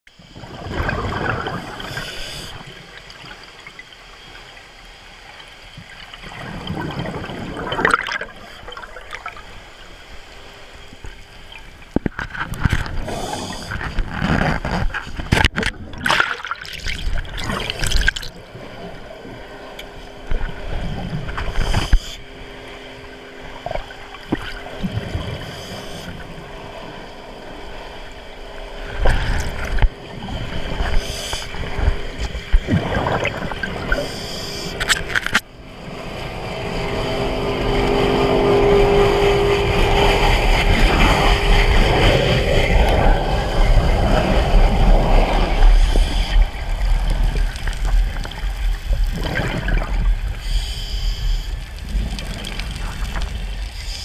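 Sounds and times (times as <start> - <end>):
exhaled bubbles gurgling underwater: 0.1 - 10.3, 10.9 - 54.0
faint steady hum: 0.1 - 54.0.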